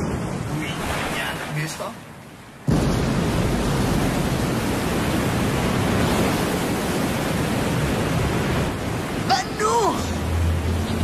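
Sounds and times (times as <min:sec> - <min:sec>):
water rushing and cascading: 0:00.0 - 0:11.0.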